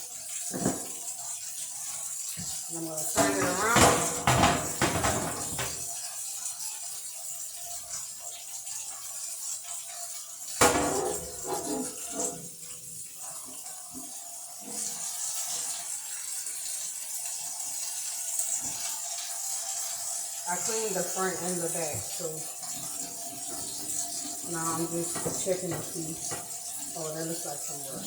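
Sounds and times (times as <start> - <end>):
tap water running over glass: 0.0 - 28.0.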